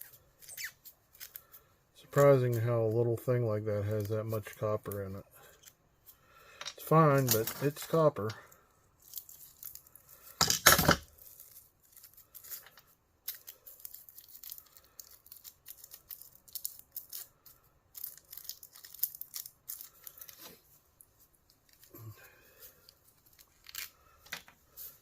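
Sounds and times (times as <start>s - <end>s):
hands pulling apart plastic parts: 0.0s - 3.0s, 6.6s - 8.4s, 9.0s - 25.0s.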